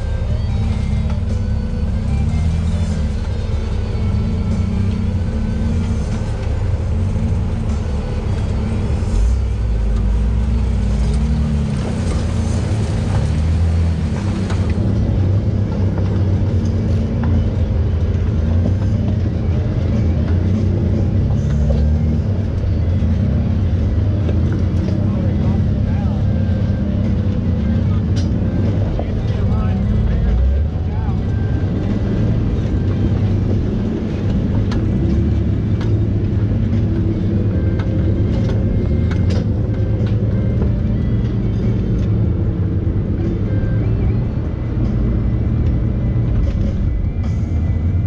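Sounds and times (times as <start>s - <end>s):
music playing: 0.0s - 48.0s
off-road vehicle engine: 0.0s - 48.0s.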